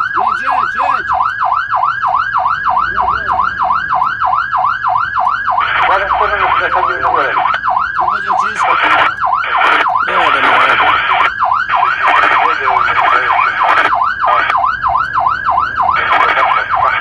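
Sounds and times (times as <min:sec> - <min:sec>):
fire engine siren yelping: 0:00.0 - 0:17.0.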